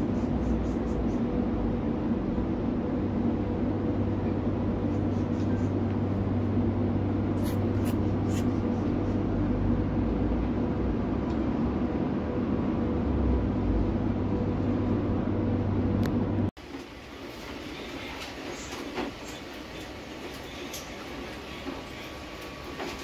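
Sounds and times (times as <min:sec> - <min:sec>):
electrical hum of machinery: 0:00.0 - 0:23.0.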